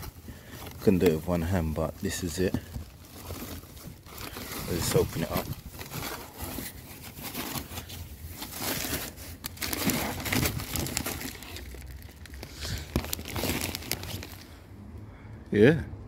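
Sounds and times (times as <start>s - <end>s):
plastic and foam crinkling: 0.0s - 14.6s.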